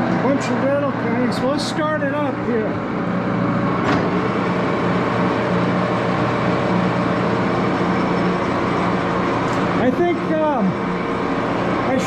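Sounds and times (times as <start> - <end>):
lathe mechanical drone: 0.0 - 12.0
steady low hum: 0.0 - 12.0.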